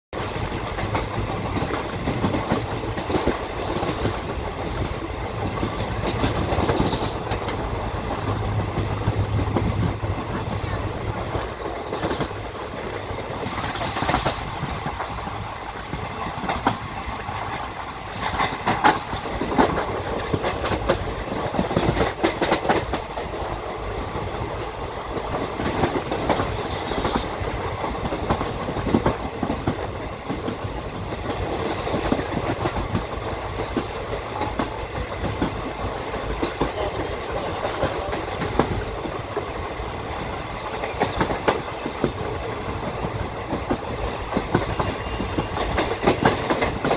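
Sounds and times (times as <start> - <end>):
train wheels rumbling on rails: 0.1 - 46.9
clickety-clack of wheels: 0.2 - 46.9.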